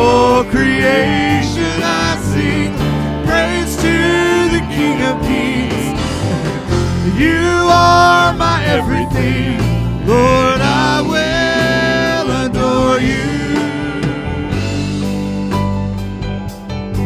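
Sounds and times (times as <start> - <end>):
guitar and keyboard chords: 0.0 - 17.0.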